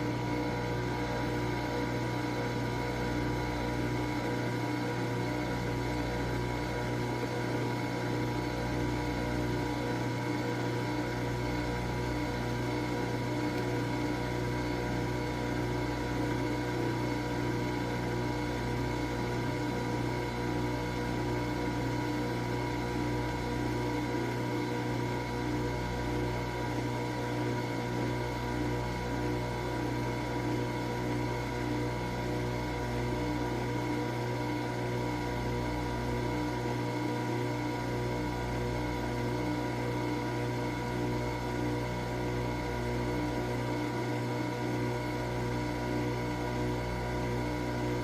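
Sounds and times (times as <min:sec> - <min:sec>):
coffee machine humming: 0:00.0 - 0:48.0.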